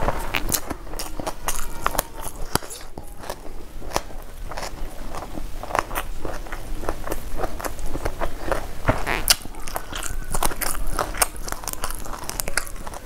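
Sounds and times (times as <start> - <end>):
crunchy chewing of food: 0.0 - 13.0.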